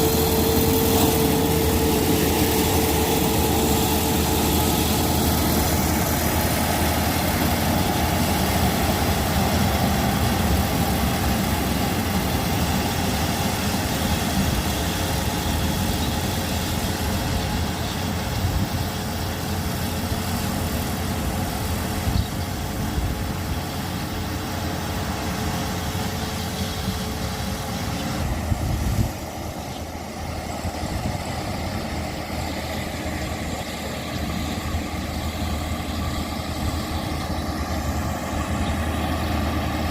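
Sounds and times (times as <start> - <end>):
motor engine droning: 0.0 - 39.9.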